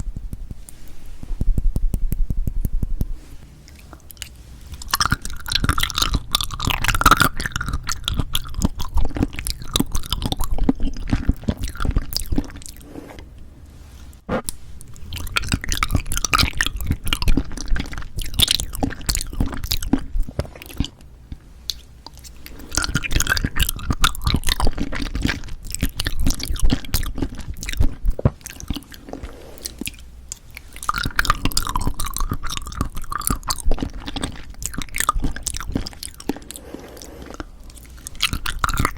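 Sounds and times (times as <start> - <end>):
wet chewing mouth sounds: 0.0 - 13.4, 14.3 - 38.9.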